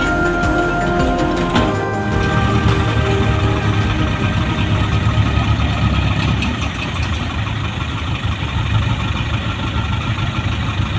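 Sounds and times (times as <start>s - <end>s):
heavy diesel engine rumbling: 0.0s - 10.9s.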